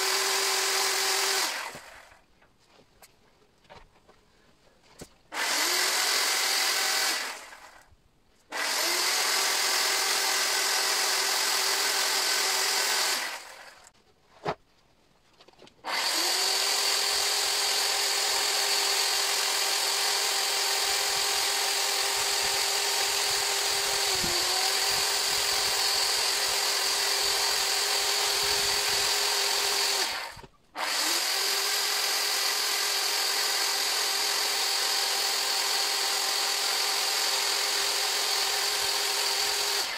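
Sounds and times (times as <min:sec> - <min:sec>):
electric chainsaw cutting wood: 0:00.0 - 0:02.2, 0:05.3 - 0:07.9, 0:08.5 - 0:13.9, 0:15.8 - 0:39.9.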